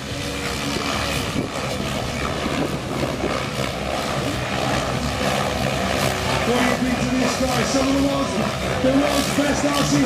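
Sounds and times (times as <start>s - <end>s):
whir of helicopter rotor blades: 0.0s - 10.0s.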